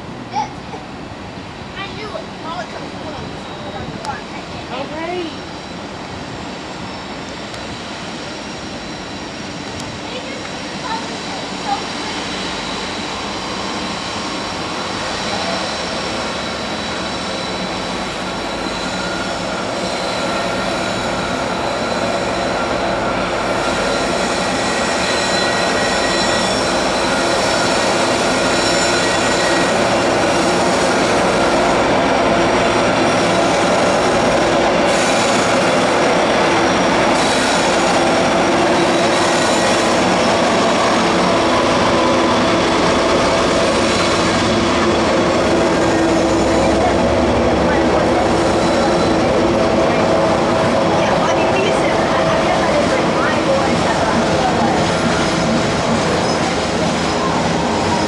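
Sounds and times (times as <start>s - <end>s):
diesel locomotives running: 0.0s - 58.0s
train wheels rolling: 5.5s - 58.0s.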